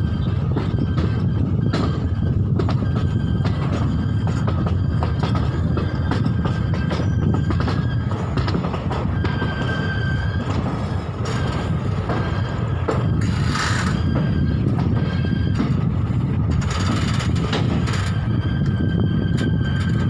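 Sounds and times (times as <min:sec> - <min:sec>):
train coaches rumbling: 0:00.0 - 0:20.0
wheels clicking over rail joints: 0:00.0 - 0:20.0.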